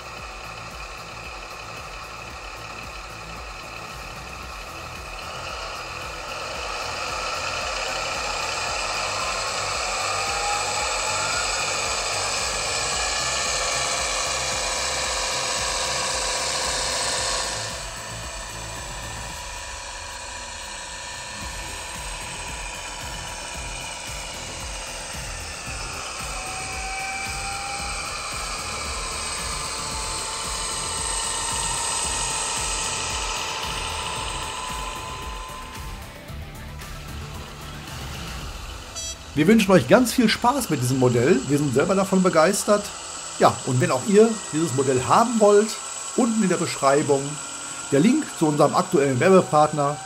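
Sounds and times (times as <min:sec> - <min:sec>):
model locomotive diesel engine sound: 0:00.0 - 0:50.0.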